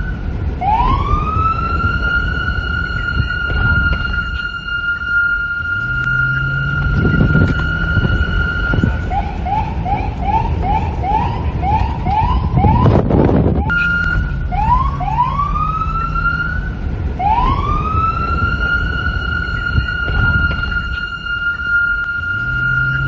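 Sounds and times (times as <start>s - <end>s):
police siren: 0.0s - 23.0s
wind noise: 0.0s - 23.0s.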